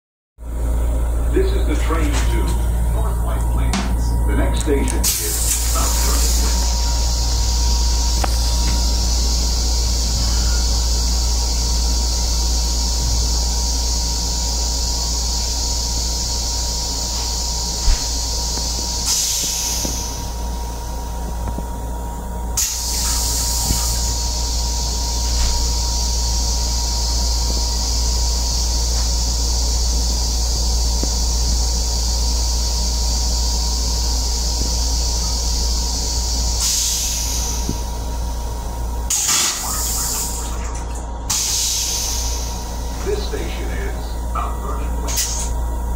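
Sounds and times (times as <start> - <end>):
train low rumble: 0.4 - 45.9
steady hiss: 4.4 - 40.7, 41.3 - 45.9.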